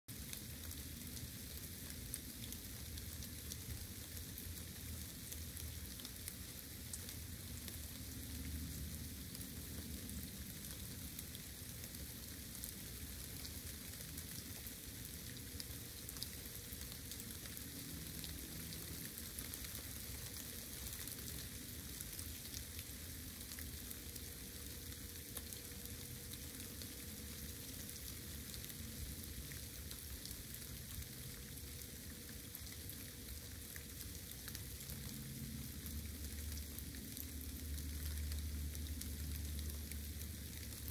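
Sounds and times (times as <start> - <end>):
steady rain: 0.1 - 40.9.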